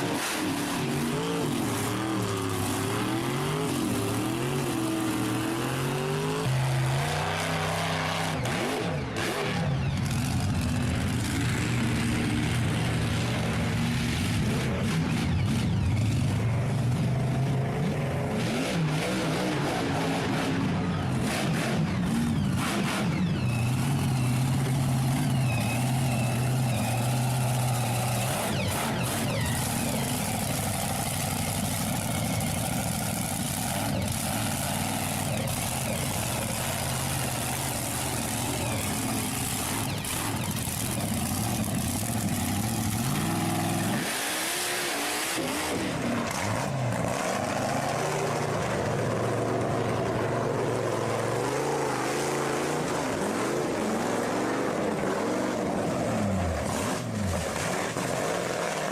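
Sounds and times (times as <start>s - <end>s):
engine running and revving: 0.0s - 58.9s.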